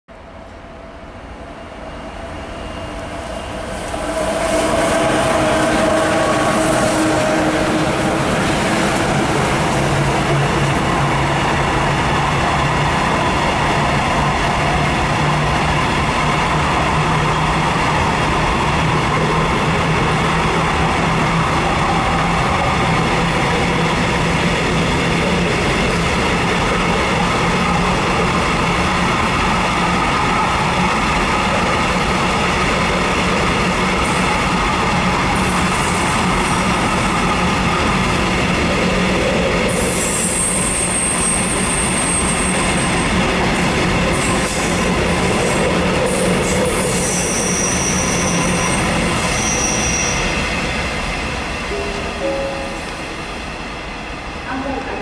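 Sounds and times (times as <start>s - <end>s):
freight train passing: 0.1s - 55.0s.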